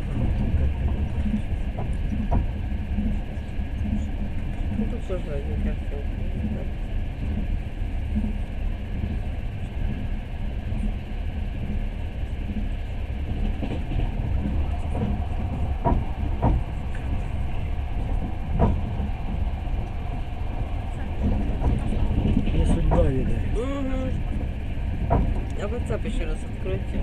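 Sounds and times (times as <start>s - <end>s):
train carriage rumbling on track: 0.0s - 27.0s.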